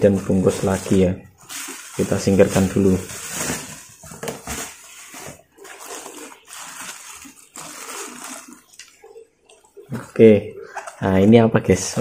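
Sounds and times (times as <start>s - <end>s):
bubble wrap crinkling: 0.0s - 10.1s.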